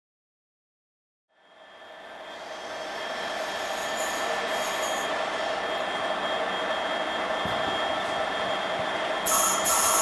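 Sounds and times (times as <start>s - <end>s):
train rolling noise: 1.4s - 10.0s.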